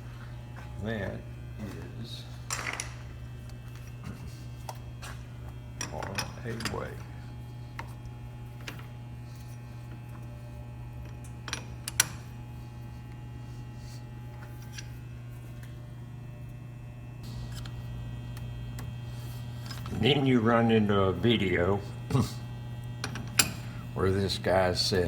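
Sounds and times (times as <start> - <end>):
low electric hum: 0.0 - 25.0.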